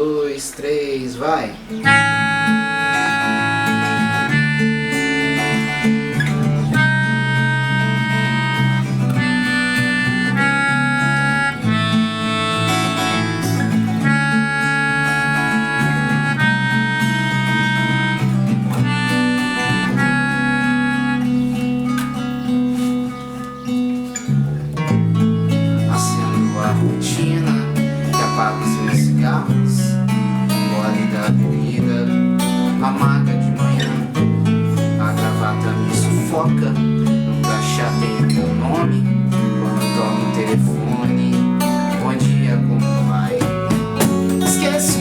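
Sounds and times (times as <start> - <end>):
acoustic guitar chords: 0.0 - 45.0
harmonica melody: 1.7 - 45.0.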